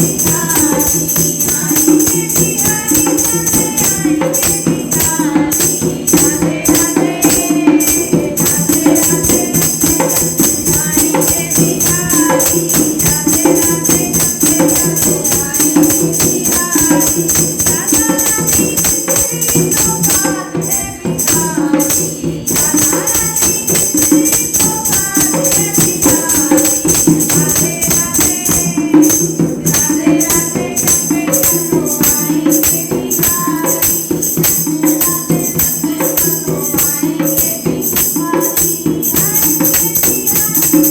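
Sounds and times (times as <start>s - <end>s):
tambourine jingling: 0.0s - 40.9s
women singing: 0.0s - 40.9s.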